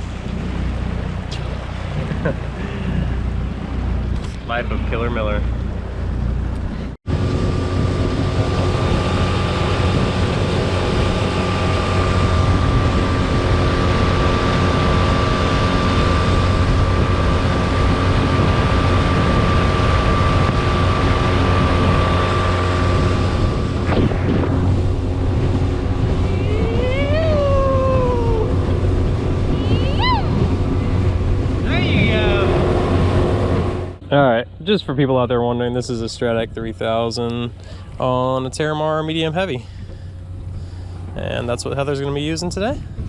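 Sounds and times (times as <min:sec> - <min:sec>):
outboard motor running: 0:00.0 - 0:34.6, 0:36.0 - 0:43.0
wind noise on microphone: 0:00.0 - 0:34.8, 0:35.4 - 0:43.0
steady whine: 0:00.0 - 0:43.0.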